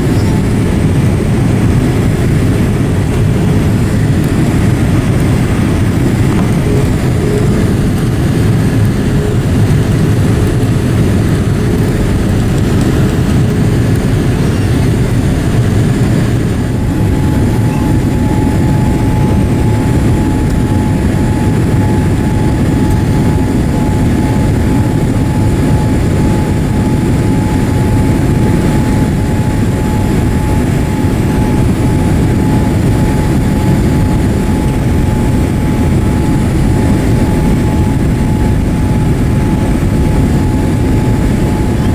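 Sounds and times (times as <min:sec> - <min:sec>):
airplane cabin rumble: 0:00.0 - 0:41.9
thin steady whine: 0:00.0 - 0:41.9.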